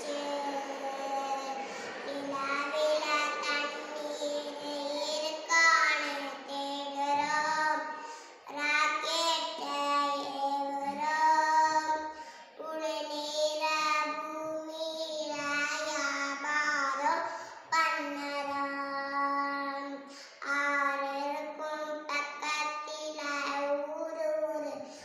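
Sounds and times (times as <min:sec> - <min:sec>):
girl singing: 0:00.0 - 0:25.0.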